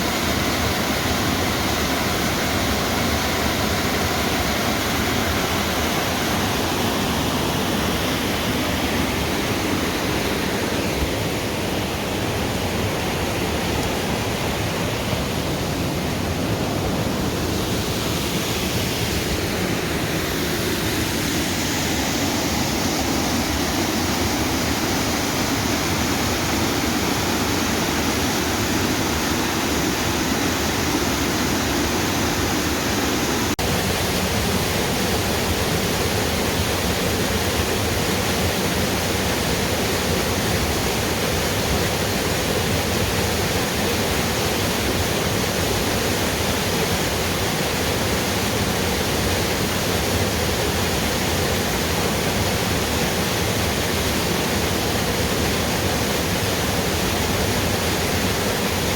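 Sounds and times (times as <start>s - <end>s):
waterfall rushing and splashing: 0.0s - 58.9s.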